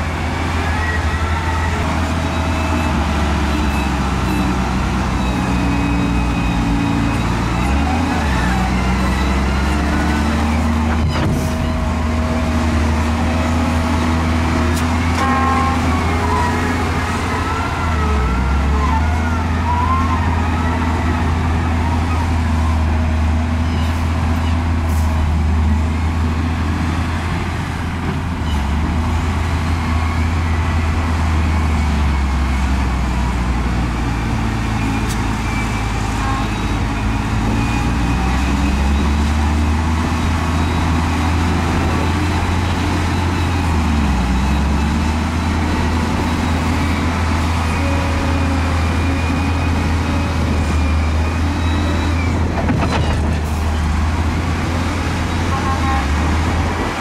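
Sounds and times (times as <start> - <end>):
heavy diesel machinery engine drone: 0.0 - 57.0.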